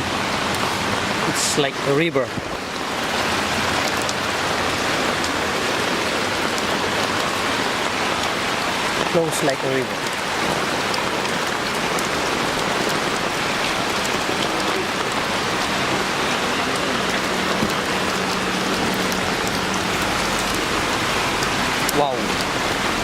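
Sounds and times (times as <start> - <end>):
floodwater rushing down street: 0.0 - 23.0.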